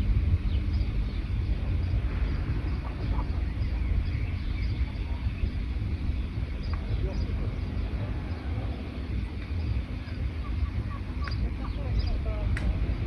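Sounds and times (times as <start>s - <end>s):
low rumble: 0.0s - 13.0s
songbirds chirping: 0.0s - 13.0s.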